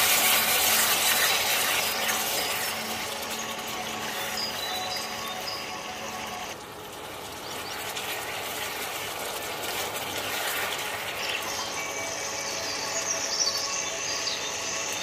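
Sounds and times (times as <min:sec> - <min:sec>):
sauce bubbling and sizzling in pan: 0:00.0 - 0:15.0.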